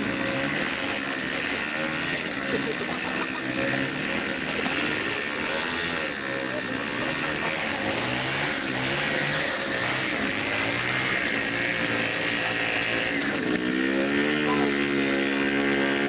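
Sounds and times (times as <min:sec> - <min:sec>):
two-stroke motorcycle engine revving: 0:00.0 - 0:16.0.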